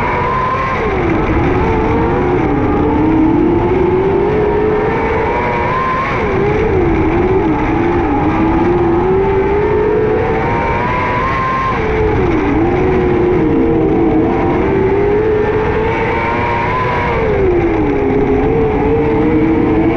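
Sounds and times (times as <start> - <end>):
motorcycle engine at racing revs: 0.0 - 19.9.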